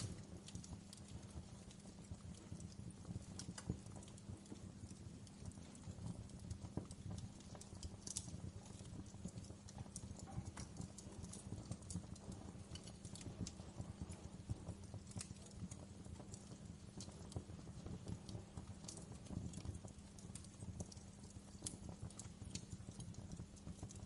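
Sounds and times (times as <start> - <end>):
low steady rumble: 0.0 - 23.8
wood fire crackling: 0.0 - 24.0.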